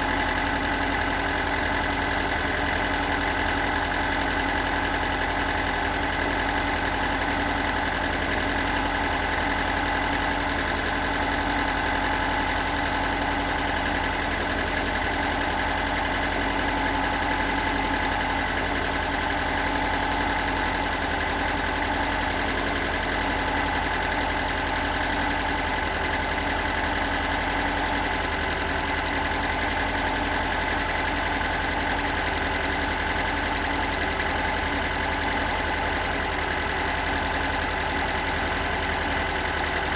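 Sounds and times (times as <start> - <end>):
car engine idling roughly: 0.0 - 39.9
engine knocking: 0.0 - 39.9.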